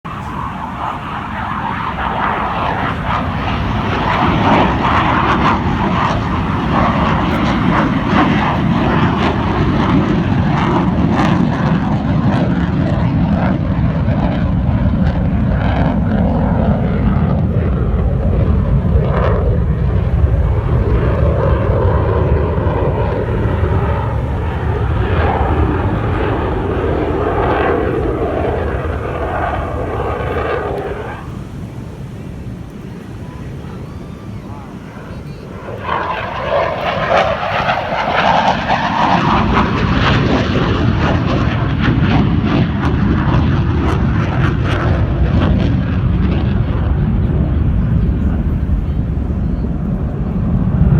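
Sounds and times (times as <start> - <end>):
jet engine roaring flyby: 0.1 - 50.9.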